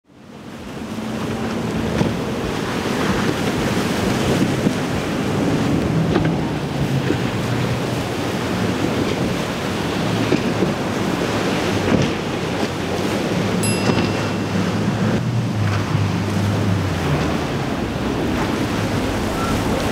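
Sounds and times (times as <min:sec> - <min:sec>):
boat outboard engines droning: 0:00.1 - 0:19.9.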